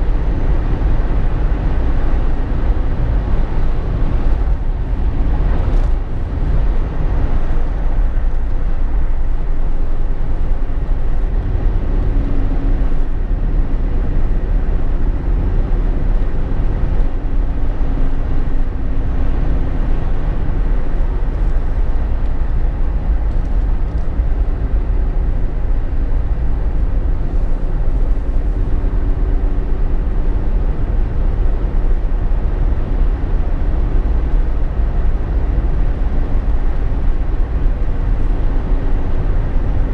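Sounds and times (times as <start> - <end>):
road and engine drone: 0.0 - 39.9.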